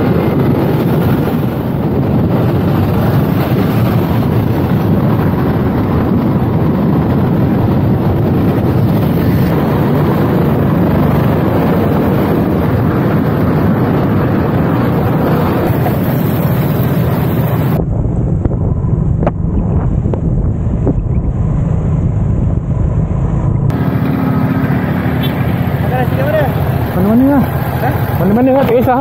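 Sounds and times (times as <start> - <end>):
motorcycle engine: 0.0 - 29.0
road noise: 0.0 - 29.0
wind rush on microphone: 0.0 - 29.0.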